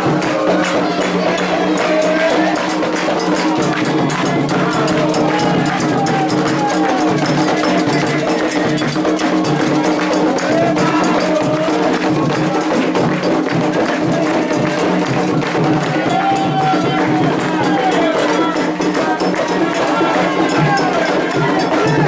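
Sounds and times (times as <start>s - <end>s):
fast percussion strikes: 0.0s - 22.0s
ringing bell: 0.0s - 22.0s
voices chanting: 0.0s - 22.0s.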